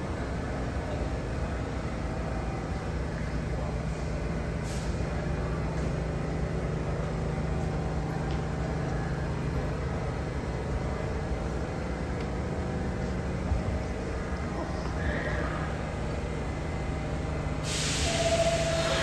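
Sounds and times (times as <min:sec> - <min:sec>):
subway train humming: 0:00.0 - 0:19.0
underground station noise: 0:00.0 - 0:19.0.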